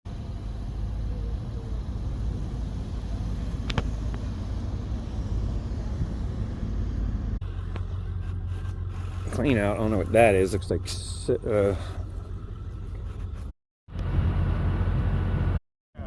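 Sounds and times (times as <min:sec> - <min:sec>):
engine rumbling: 0:00.1 - 0:16.0.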